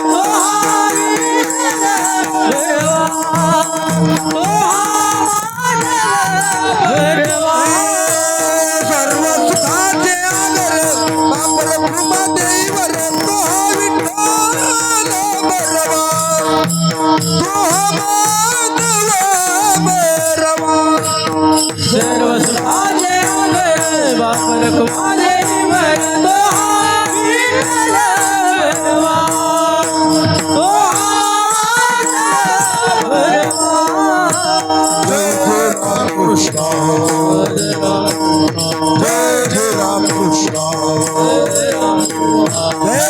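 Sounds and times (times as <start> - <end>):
devotional singing: 0.0 - 43.0
rattling hand percussion: 0.0 - 43.0.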